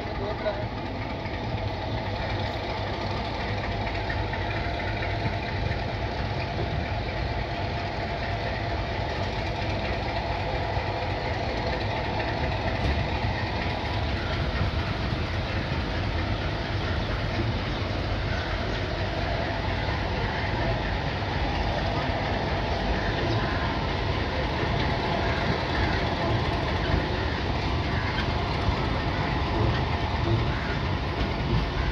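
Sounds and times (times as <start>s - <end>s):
low engine hum: 0.0s - 31.9s
train rumbling: 0.0s - 31.9s.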